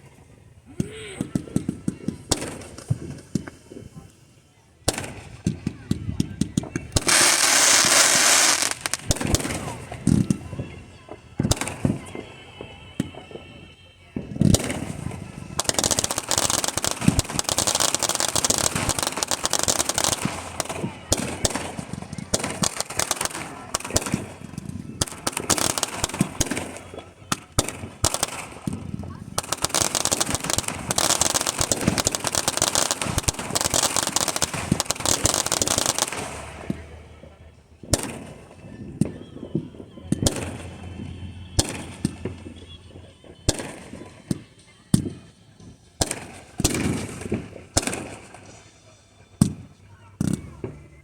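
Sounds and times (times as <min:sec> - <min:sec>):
fireworks crackling: 0:00.0 - 0:51.0
fireworks booming: 0:00.7 - 0:51.0.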